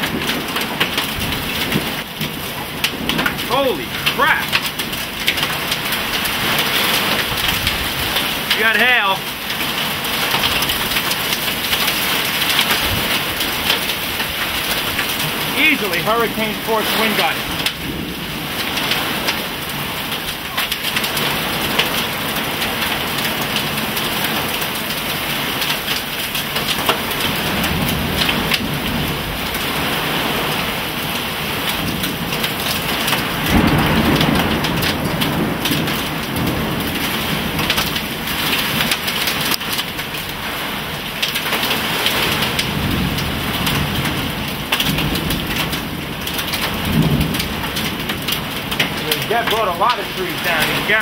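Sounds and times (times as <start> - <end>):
heavy rain: 0.0 - 51.0.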